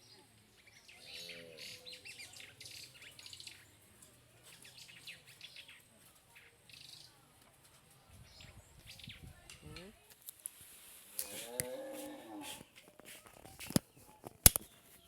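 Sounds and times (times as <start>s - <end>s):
small birds chirping: 0.0s - 10.1s, 11.2s - 15.0s.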